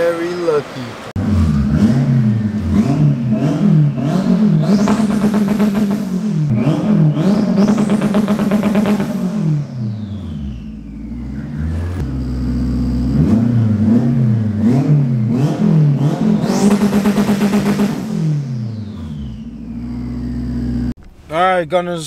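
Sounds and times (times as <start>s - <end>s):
car engine revving: 0.0s - 21.7s.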